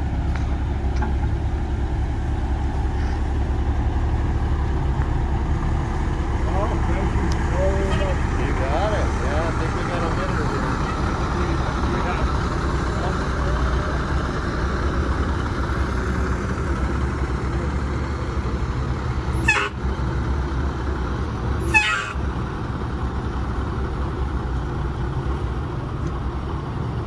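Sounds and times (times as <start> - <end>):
bus engine idling: 0.0 - 27.0.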